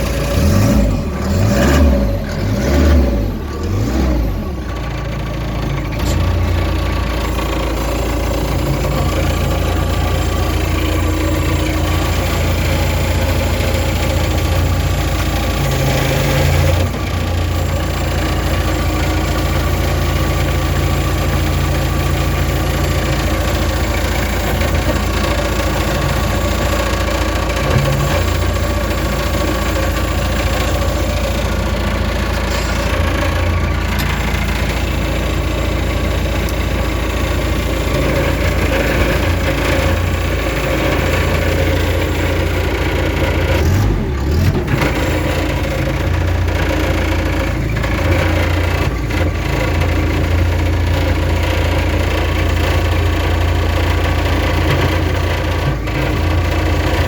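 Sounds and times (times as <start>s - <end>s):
forklift engine idling: 0.0s - 57.0s.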